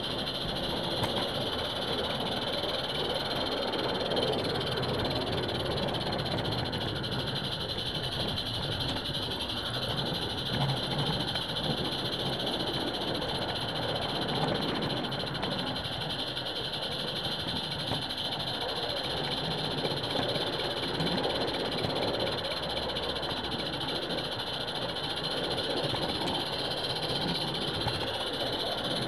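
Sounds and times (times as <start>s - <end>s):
steam locomotive hissing: 0.0s - 29.0s
wheels rattling on rails: 0.0s - 29.0s.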